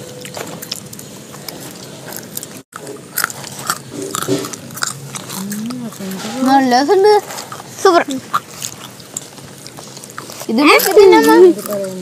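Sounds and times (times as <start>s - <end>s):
chewing crisp fries: 0.0s - 12.0s.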